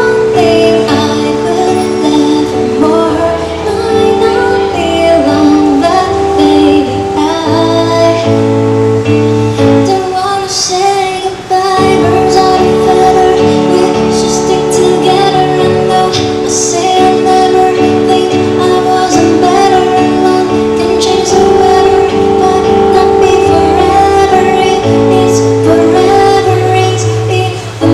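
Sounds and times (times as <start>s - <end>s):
instrumental backing music: 0.0s - 27.9s
woman singing: 0.0s - 27.9s.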